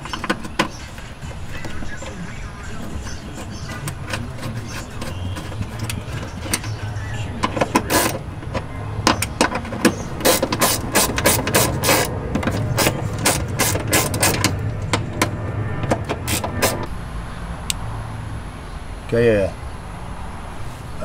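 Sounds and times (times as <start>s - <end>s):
engine idling hum: 0.0s - 20.0s.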